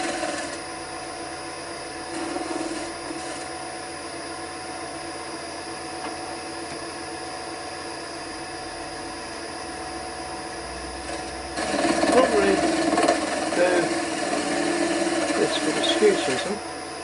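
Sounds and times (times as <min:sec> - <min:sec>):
wood lathe motor whirring: 0:00.0 - 0:17.0.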